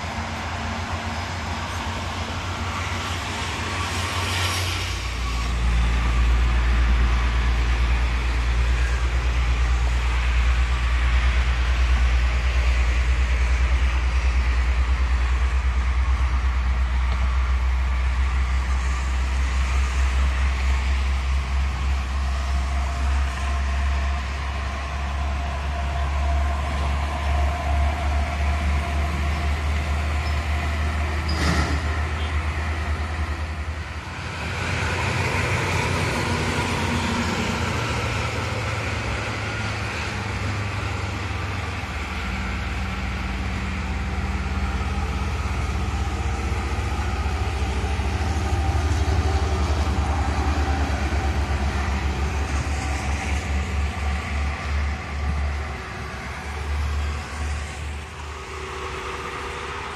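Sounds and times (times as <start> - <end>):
highway traffic rumble: 0.0 - 59.9.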